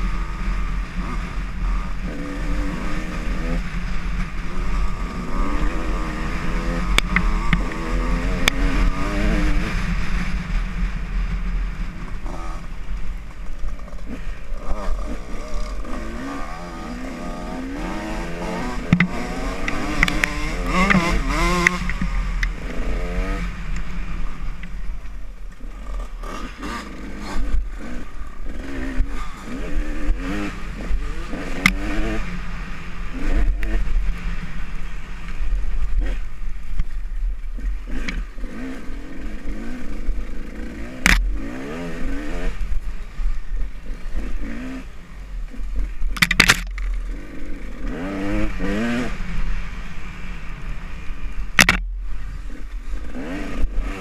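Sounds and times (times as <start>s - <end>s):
dirt bike engine revving: 0.0s - 36.3s, 37.6s - 54.0s.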